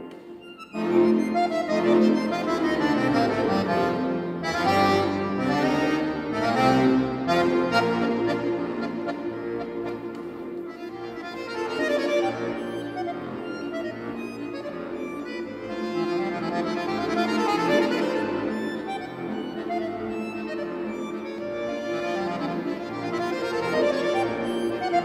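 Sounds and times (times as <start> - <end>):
accordion playing classical music: 0.0 - 25.0.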